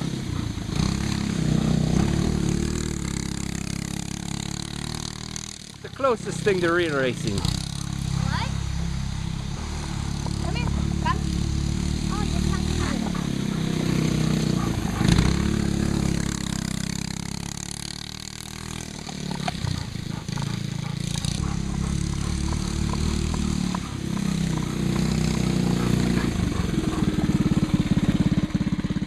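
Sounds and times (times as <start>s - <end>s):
go-kart engine running: 0.0s - 29.0s.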